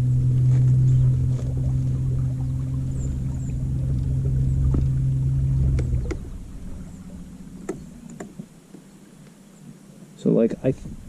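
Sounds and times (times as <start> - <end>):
boat motor running: 0.0 - 8.9.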